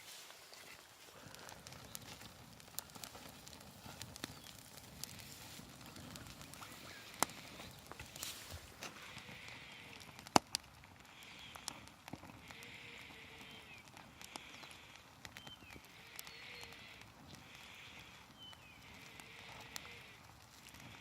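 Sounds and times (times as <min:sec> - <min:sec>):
burning wood popping: 0:00.0 - 0:21.0
campfire crackling: 0:00.0 - 0:21.0.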